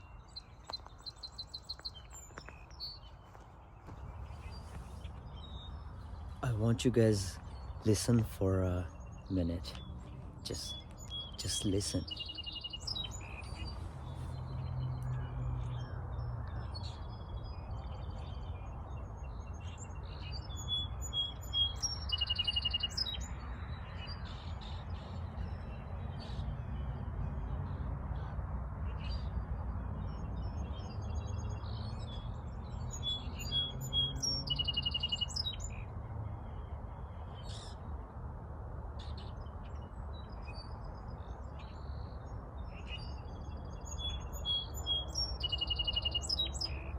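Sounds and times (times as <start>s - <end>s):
birds chirping and calling: 0.0s - 18.4s, 19.4s - 26.6s, 30.9s - 35.9s, 39.0s - 46.9s
low rumble of wind: 0.0s - 46.9s.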